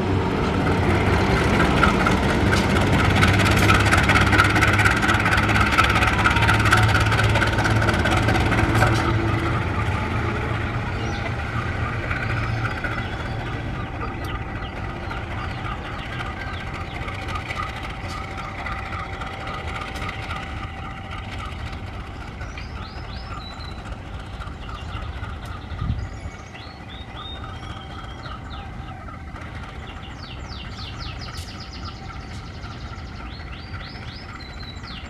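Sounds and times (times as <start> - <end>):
diesel locomotive engine hum: 0.0 - 35.0.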